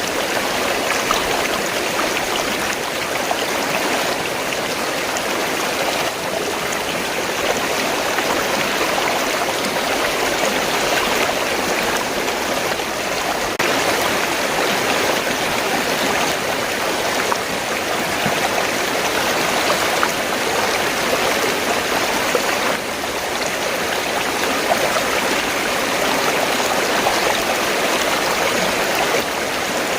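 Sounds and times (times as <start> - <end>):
river water rushing: 0.0 - 29.9.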